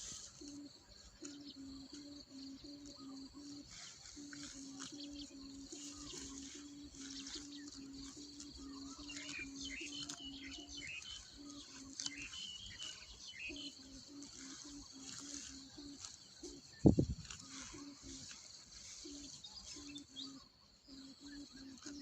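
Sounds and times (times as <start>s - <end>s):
birds chirping: 0.0s - 22.0s
insects hissing: 0.0s - 22.0s
kite hummer bow humming: 0.0s - 22.0s.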